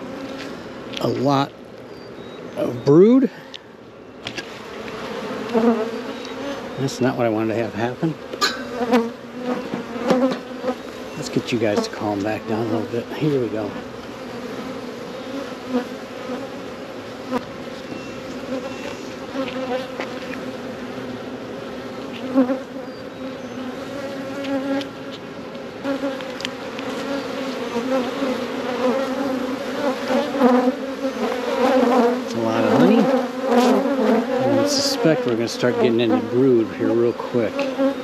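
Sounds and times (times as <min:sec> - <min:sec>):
honey bees buzzing: 0:00.0 - 0:38.0.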